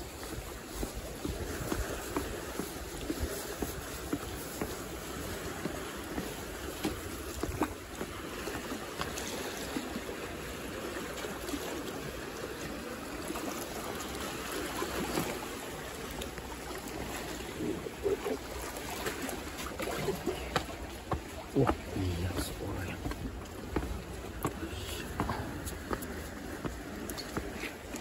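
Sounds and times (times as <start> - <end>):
water sloshing against concrete wall: 0.0 - 28.0.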